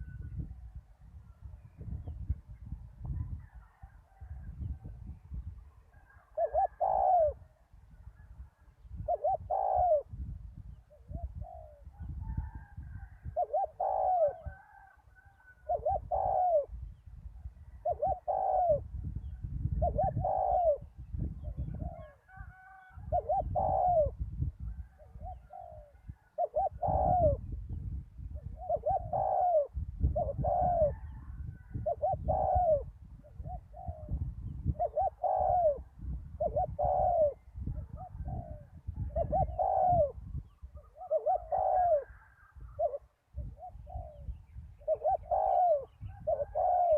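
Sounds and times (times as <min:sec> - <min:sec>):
dove cooing: 0:05.9 - 0:16.8, 0:17.7 - 0:19.0, 0:19.6 - 0:27.6, 0:28.4 - 0:46.9.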